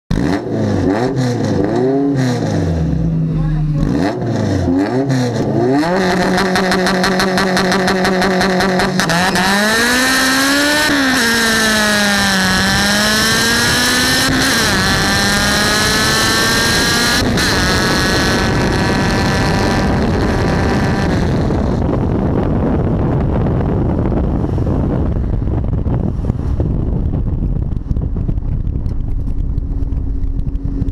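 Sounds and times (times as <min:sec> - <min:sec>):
car engine revving: 0:00.1 - 0:30.9
wind and road noise: 0:00.1 - 0:30.9.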